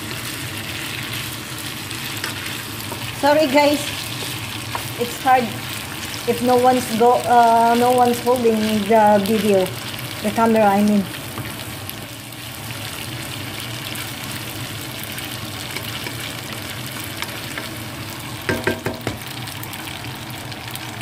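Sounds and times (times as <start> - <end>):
food sizzling in frying pan: 0.0 - 21.0.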